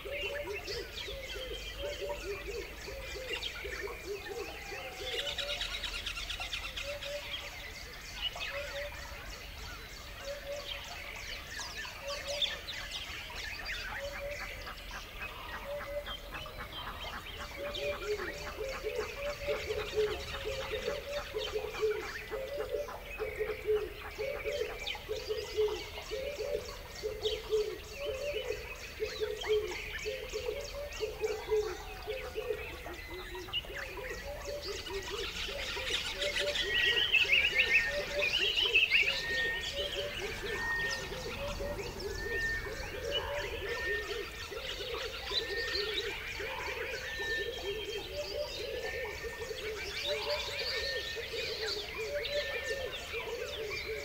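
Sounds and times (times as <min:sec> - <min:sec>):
birds chirping: 0:00.0 - 0:54.0
low repeated bird call: 0:00.0 - 0:54.0.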